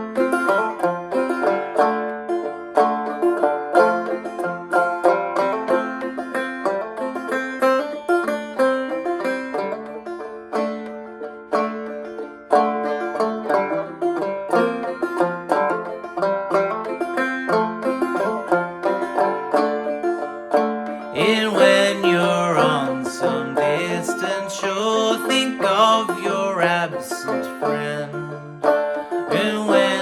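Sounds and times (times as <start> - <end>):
banjo plucking: 0.0 - 30.0.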